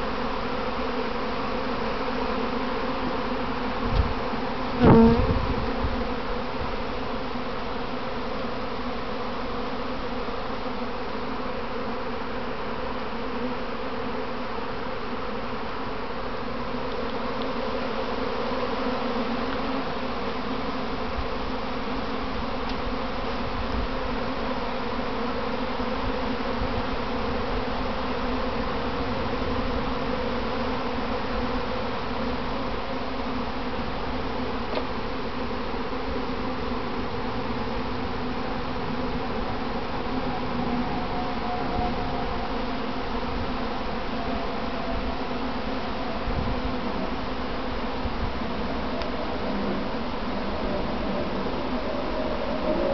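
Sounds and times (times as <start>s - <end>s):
bee swarm buzzing: 0.0s - 52.9s.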